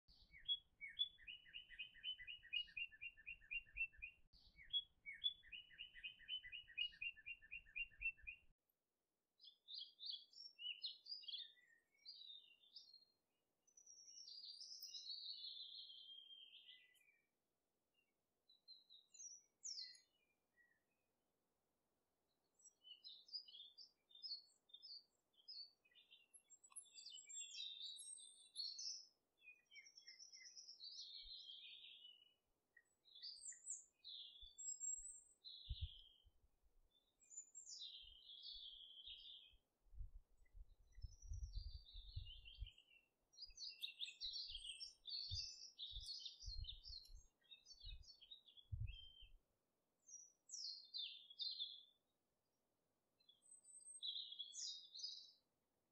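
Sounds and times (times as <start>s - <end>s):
birds chirping and singing: 0.1s - 8.4s, 9.4s - 13.1s, 13.7s - 17.2s, 18.7s - 20.8s, 22.6s - 36.2s, 37.0s - 39.6s, 40.4s - 49.4s, 50.1s - 52.0s, 53.2s - 55.4s.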